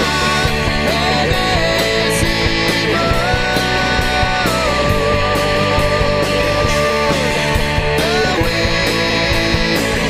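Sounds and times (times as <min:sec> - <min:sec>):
distorted guitar: 0:00.0 - 0:10.0
drums and cymbals: 0:00.0 - 0:10.0.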